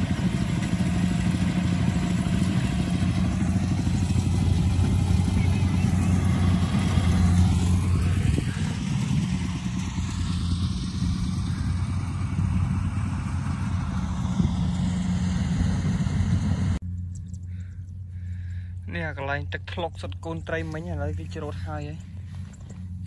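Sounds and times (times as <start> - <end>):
harvester engine humming: 0.0 - 23.0.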